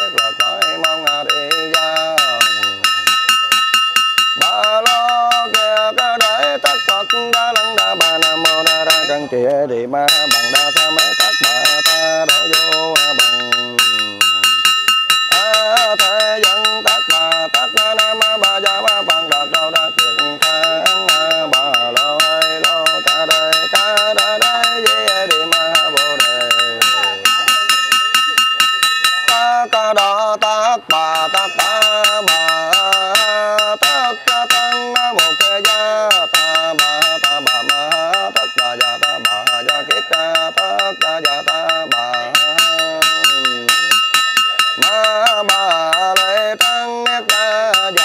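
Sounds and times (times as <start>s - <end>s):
man chanting: 0.0s - 3.0s, 4.4s - 14.7s, 15.3s - 48.0s
brass bell ringing rapidly: 0.0s - 9.4s, 10.1s - 48.0s.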